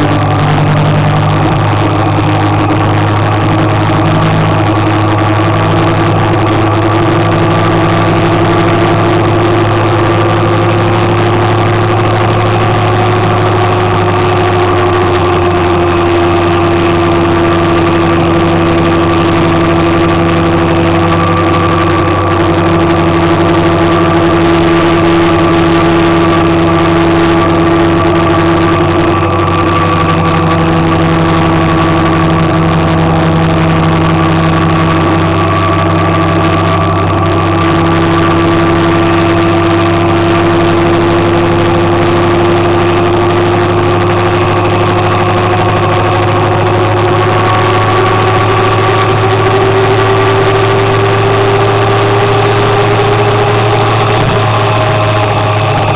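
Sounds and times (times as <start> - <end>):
motor scooter engine running: 0.0 - 55.9.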